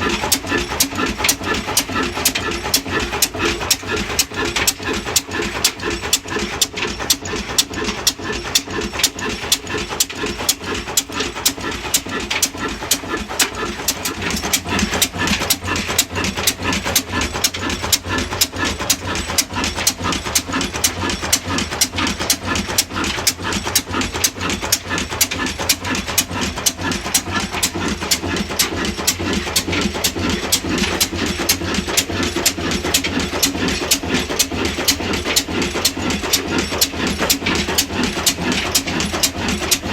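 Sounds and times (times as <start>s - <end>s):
diesel engine knocking steadily: 0.0s - 39.9s.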